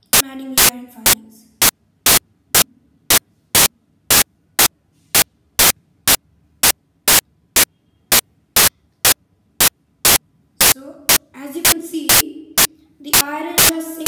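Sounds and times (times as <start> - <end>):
static noise bursts: 0.0 - 14.0.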